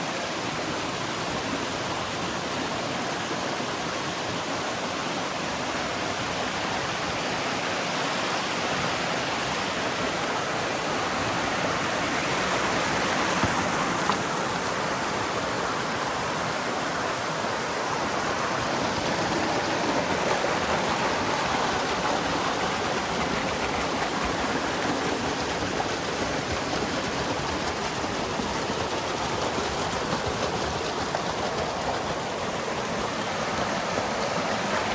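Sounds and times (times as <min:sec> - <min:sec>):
stream of running water: 0:00.0 - 0:34.9.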